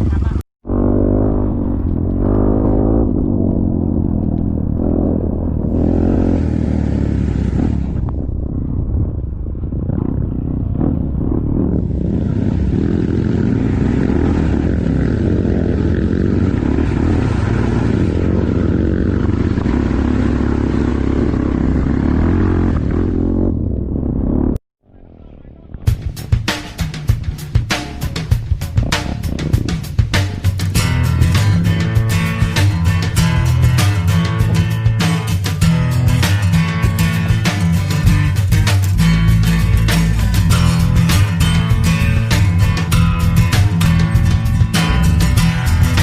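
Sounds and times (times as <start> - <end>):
vehicle engine running: 0.0 - 8.5, 9.3 - 24.6, 28.3 - 46.0.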